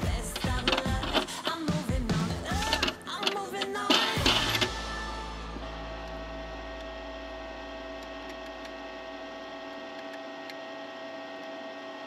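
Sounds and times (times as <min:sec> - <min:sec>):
welder electrical hum: 0:00.0 - 0:12.0.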